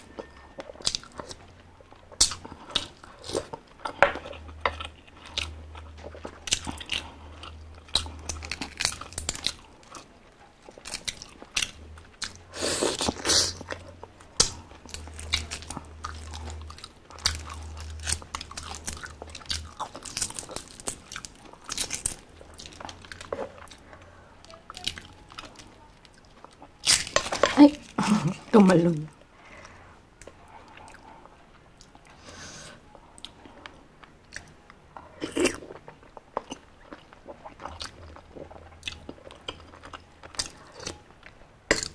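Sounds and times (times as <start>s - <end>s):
chewing and biting: 0.0s - 28.4s, 33.2s - 41.9s.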